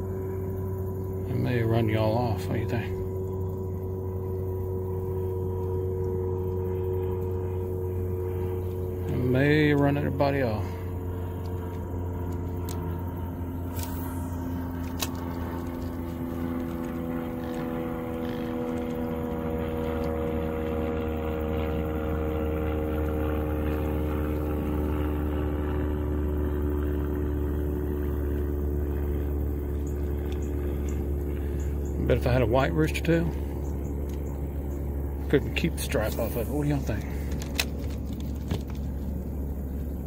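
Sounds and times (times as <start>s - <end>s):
engine running steadily: 0.0s - 40.0s.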